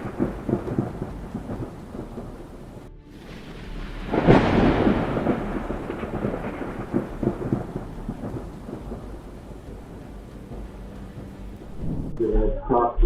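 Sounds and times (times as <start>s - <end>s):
thunder cracking and rumbling: 0.0s - 12.2s.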